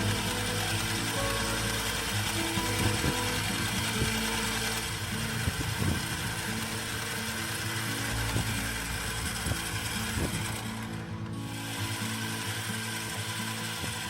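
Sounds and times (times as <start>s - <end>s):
lathe motor humming: 0.0s - 14.0s.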